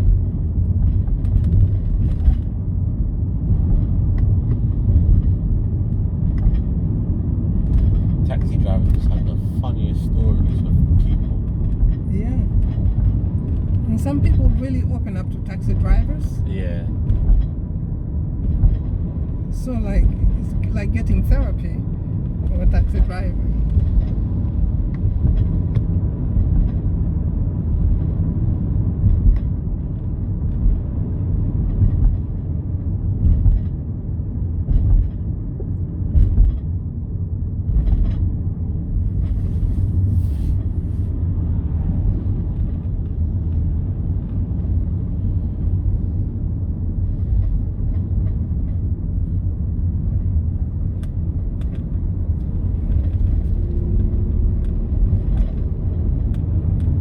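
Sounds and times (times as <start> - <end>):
car cabin rumble: 0.0 - 57.0.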